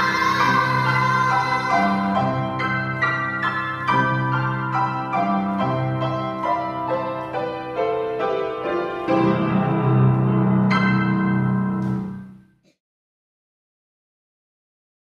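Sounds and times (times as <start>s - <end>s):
piano playing chords: 0.0s - 12.6s.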